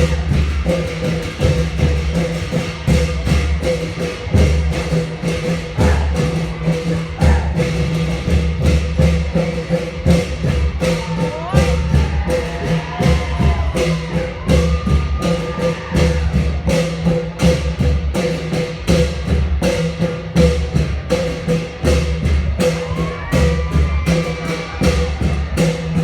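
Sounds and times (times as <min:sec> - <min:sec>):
hand drums booming: 0:00.0 - 0:26.0.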